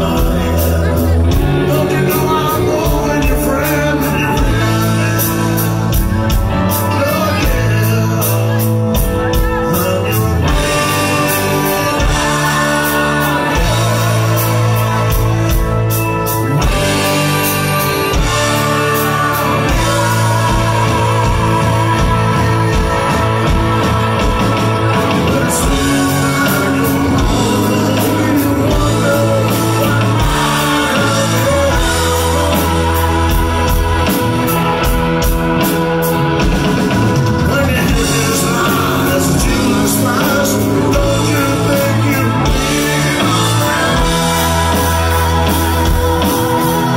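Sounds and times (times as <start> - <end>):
bass guitar: 0.0 - 46.9
drums: 0.0 - 46.9
electric guitars: 0.0 - 46.9
person singing: 0.0 - 46.9.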